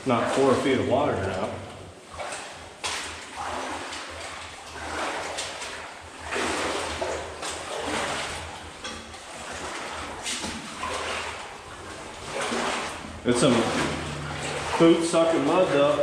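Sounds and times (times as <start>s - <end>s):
footsteps wading through water: 0.0s - 16.0s.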